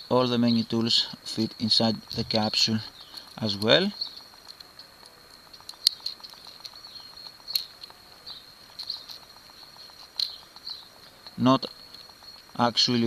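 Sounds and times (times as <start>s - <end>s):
small metal tools clicking: 0.2s - 13.0s.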